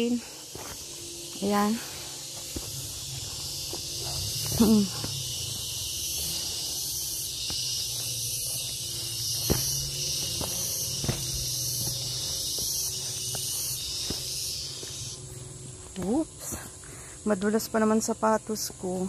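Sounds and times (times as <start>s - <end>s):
footsteps on a path: 0.0s - 17.1s
high-pitched insect chorus: 0.0s - 19.0s.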